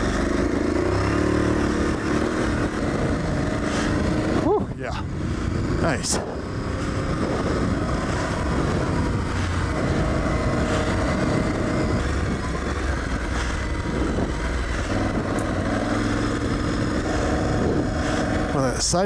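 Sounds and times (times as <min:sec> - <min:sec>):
motorcycle engine revving: 0:00.0 - 0:19.0
wind and tyre noise: 0:00.0 - 0:19.0.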